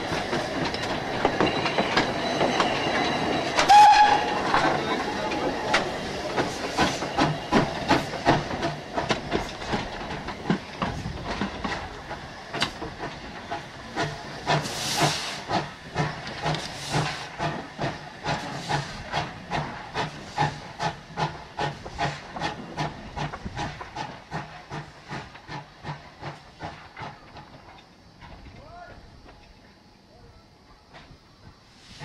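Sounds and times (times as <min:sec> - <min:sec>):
steam hissing: 0:00.0 - 0:28.5, 0:30.8 - 0:32.0
steam locomotive exhaust beats: 0:00.0 - 0:29.6.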